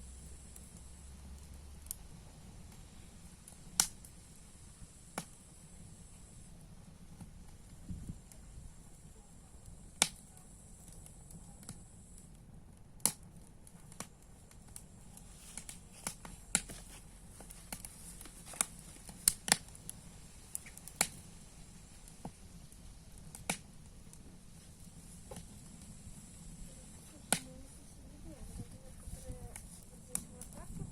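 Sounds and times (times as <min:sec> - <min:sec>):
campfire crackling: 0:00.0 - 0:30.9
soft steady hiss: 0:00.0 - 0:30.9.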